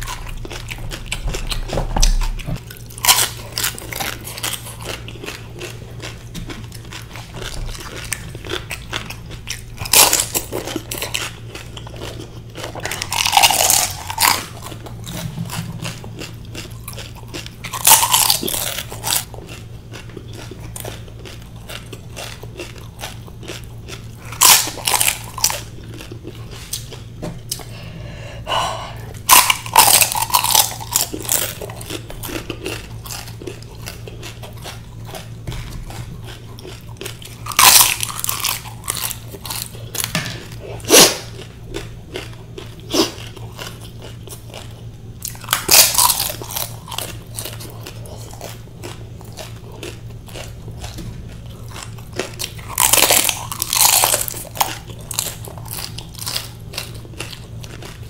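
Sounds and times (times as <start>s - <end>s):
crunchy food being chewed: 0.0s - 27.8s, 29.0s - 58.0s.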